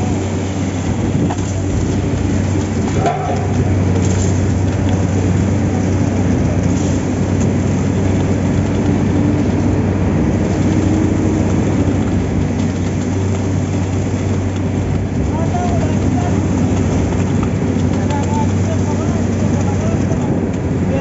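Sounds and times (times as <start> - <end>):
concrete pump engine drone: 0.0 - 21.0.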